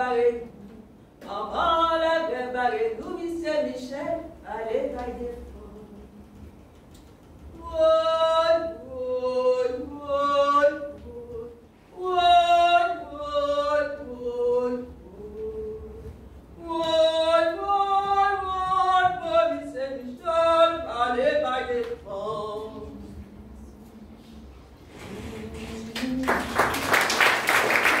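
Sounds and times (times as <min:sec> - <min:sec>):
woman singing unaccompanied: 0:00.0 - 0:06.5, 0:07.5 - 0:26.9.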